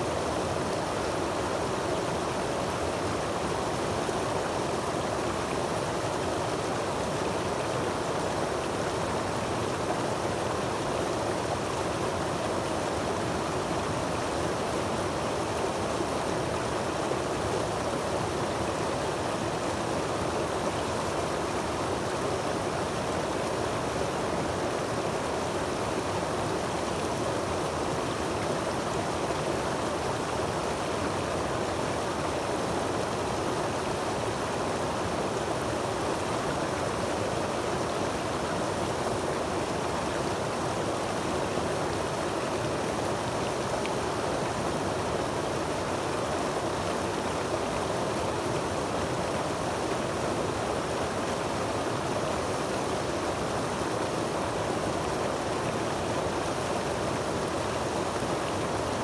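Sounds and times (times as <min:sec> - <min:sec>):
water rushing over boulders: 0:00.0 - 0:59.0.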